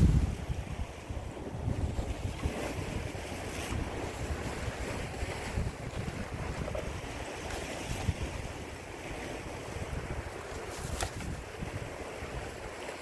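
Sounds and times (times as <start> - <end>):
sea waves on rocky shore: 0.0 - 13.0
wind buffeting microphone: 0.0 - 13.0.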